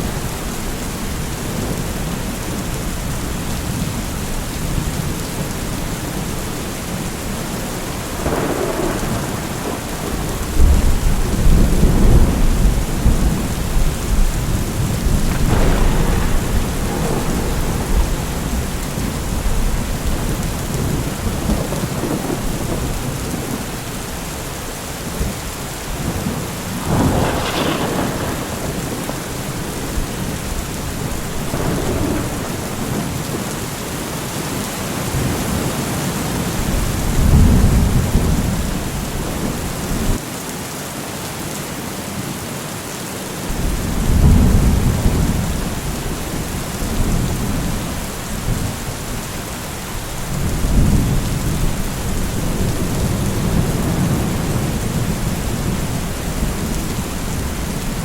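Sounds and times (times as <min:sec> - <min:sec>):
thunder rumbling: 0:00.0 - 0:33.8, 0:36.5 - 0:40.2, 0:43.5 - 0:58.0
steady rain: 0:00.0 - 0:58.0.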